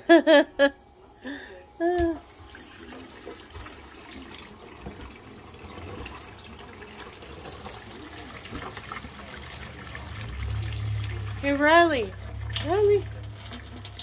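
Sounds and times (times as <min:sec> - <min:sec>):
faucet running into metal sink: 0:02.0 - 0:14.0.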